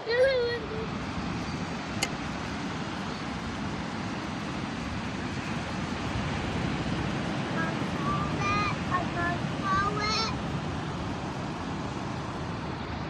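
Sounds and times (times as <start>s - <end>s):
ocean surf: 0.0s - 13.0s.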